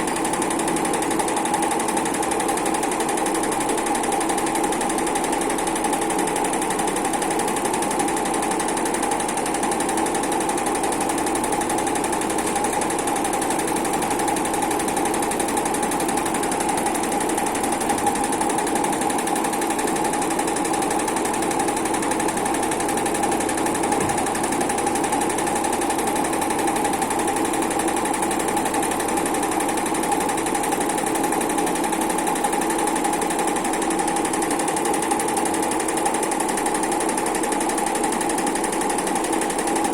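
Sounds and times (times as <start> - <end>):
sewing machine stitching chatter: 0.0 - 39.9.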